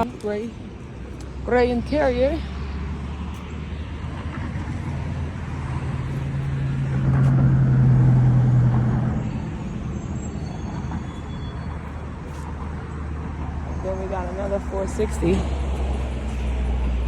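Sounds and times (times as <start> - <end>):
low traffic rumble: 0.0 - 17.0
vehicle engine driving past: 1.3 - 17.0.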